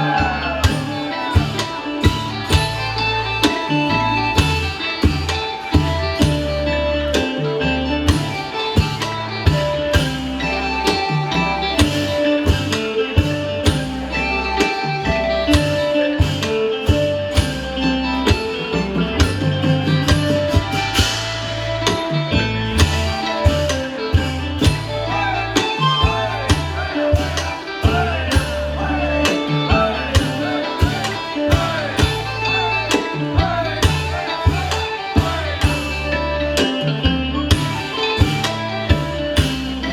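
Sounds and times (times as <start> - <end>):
folk band playing: 0.0 - 39.9
plucked melody notes: 0.0 - 39.9
regular percussion strikes: 0.0 - 39.9
steady drum beat: 0.0 - 39.9.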